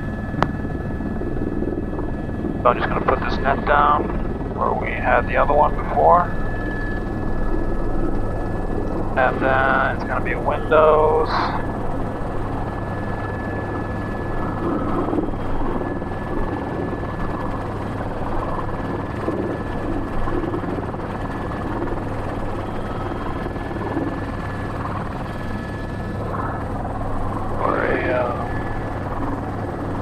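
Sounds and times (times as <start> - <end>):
helicopter engine and rotors: 0.0 - 30.0.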